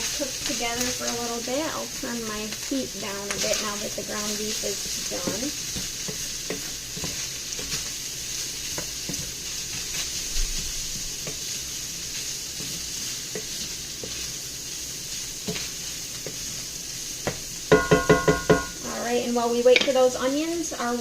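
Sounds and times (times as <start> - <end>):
utensil scraping and stirring: 0.0 - 17.4
meat sizzling in a frying pan: 0.0 - 21.0.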